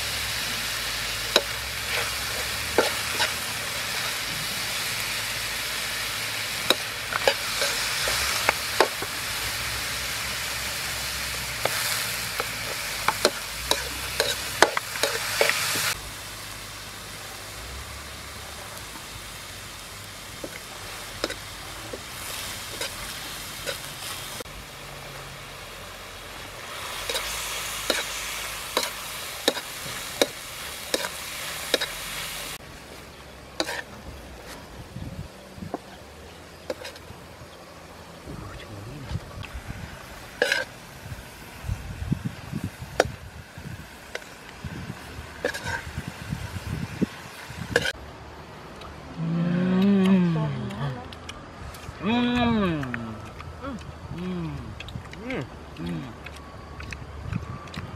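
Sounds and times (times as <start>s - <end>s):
snails sizzling in a pan: 0.0s - 48.0s.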